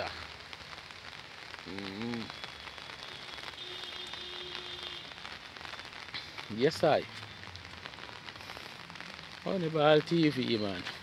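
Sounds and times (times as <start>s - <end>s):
rain pattering on hard surfaces: 0.0s - 11.0s.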